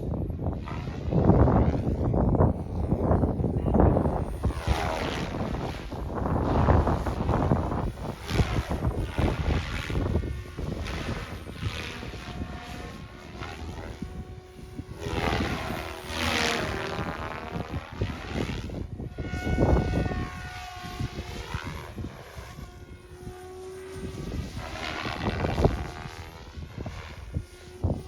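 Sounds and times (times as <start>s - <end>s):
rc helicopter rotor whine: 0.0s - 28.0s
wind rumble on microphone: 0.0s - 28.0s.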